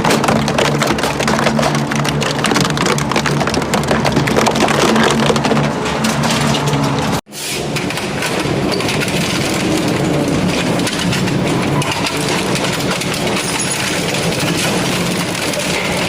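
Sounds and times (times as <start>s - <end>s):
shredding machine rattling and crunching: 0.0s - 16.0s.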